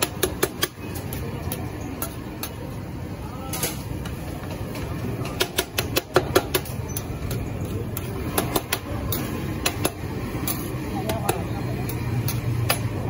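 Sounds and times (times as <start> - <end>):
low rumble of street noise: 0.0 - 13.0.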